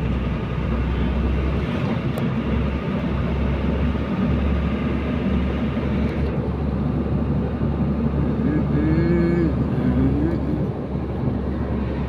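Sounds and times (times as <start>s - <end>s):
road noise: 0.0s - 12.0s
truck engine running: 0.0s - 12.0s.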